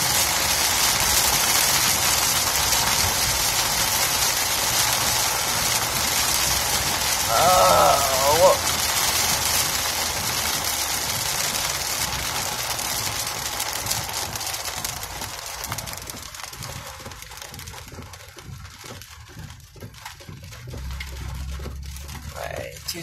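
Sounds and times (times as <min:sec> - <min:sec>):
heavy rain on car windshield: 0:00.0 - 0:23.0
vehicle running noise: 0:00.0 - 0:23.0.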